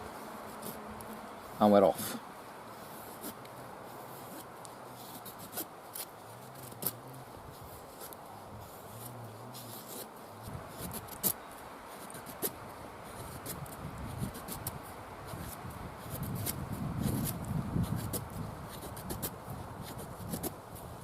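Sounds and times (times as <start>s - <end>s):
blade scraping wood: 2.8s - 20.6s.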